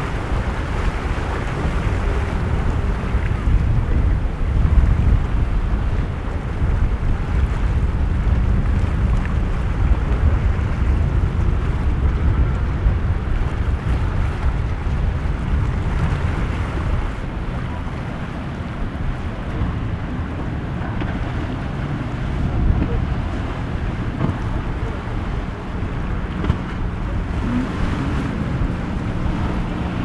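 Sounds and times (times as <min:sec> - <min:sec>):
boat running through water: 0:00.0 - 0:30.0
waves breaking: 0:00.0 - 0:30.0
wind rumbling on microphone: 0:00.0 - 0:30.0.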